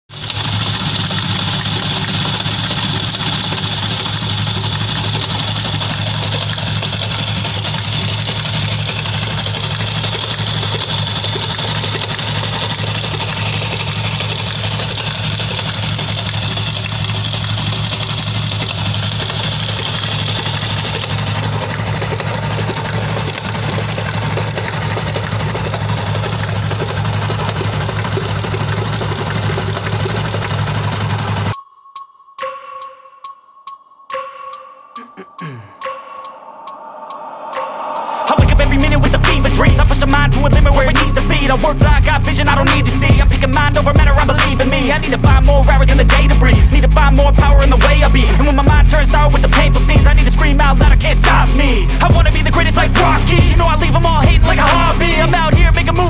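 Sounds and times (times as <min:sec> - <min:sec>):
motorcycle engine idling: 0:00.1 - 0:31.6, 0:38.2 - 0:56.0.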